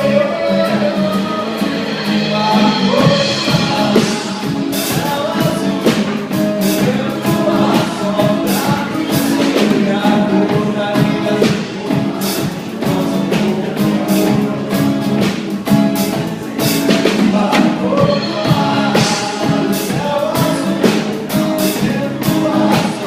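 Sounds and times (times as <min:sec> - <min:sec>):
person singing: 0:00.0 - 0:23.0
upbeat song by a trio: 0:00.0 - 0:23.0
percussion strikes: 0:00.1 - 0:23.0.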